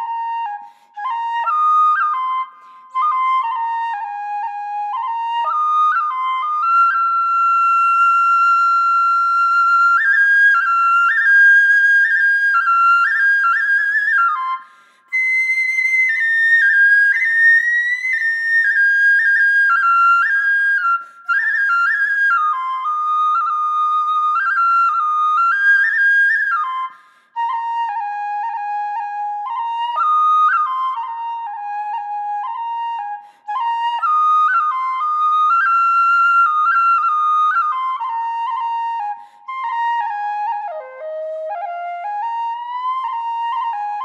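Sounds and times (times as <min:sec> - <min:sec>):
solo flute melody: 0:00.0 - 0:44.0.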